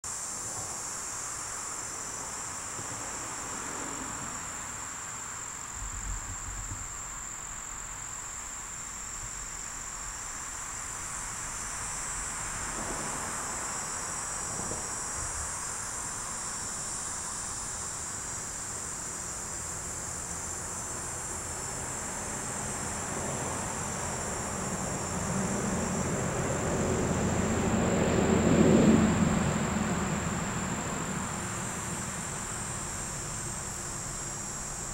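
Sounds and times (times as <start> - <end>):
insects chirring: 0.1 - 34.9.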